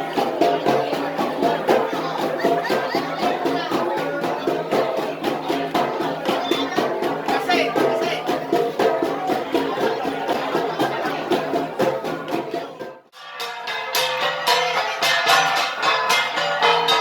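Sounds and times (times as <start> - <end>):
bronze gongs played in rhythm: 0.0 - 17.0.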